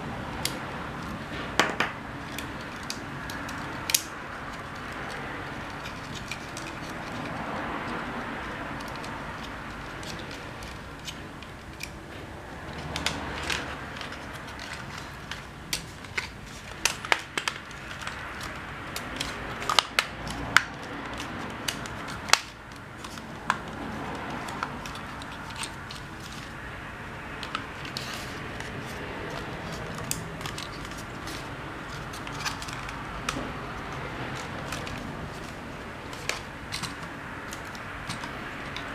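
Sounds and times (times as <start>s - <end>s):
low background noise: 0.0s - 38.9s
plastic parts clicking and rattling: 0.3s - 26.7s, 27.3s - 38.9s.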